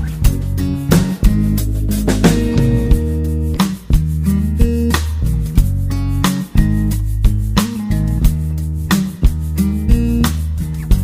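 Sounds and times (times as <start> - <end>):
guitar music with bass: 0.0 - 11.0
sharp beat: 0.0 - 11.0.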